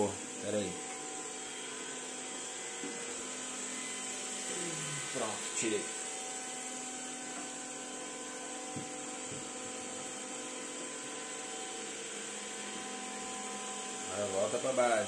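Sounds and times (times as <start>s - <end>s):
robot vacuum running: 0.0s - 15.0s.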